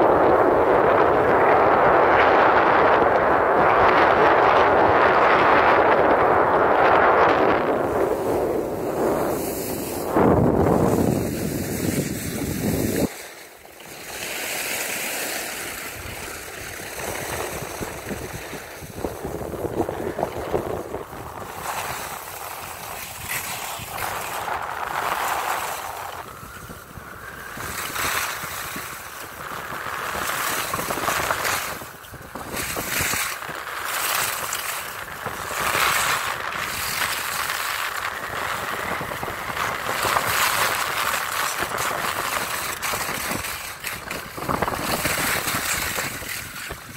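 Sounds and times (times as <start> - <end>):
skis scraping over snow: 0.0 - 46.9
wind rushing over microphone: 0.0 - 46.9.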